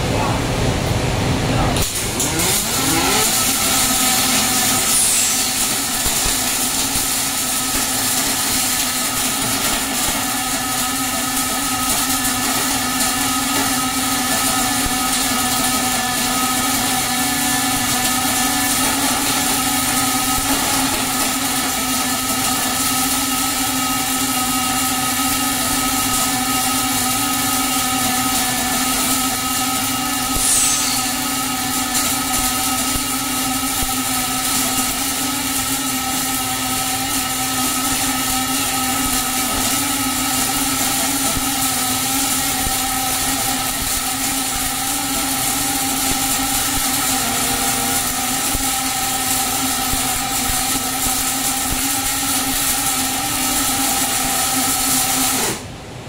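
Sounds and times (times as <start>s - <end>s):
welding arc hiss and crackle: 1.7s - 55.8s.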